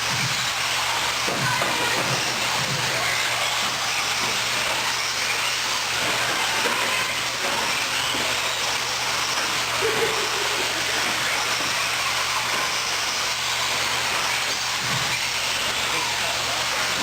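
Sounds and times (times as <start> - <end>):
rc cars racing: 0.0 - 17.0.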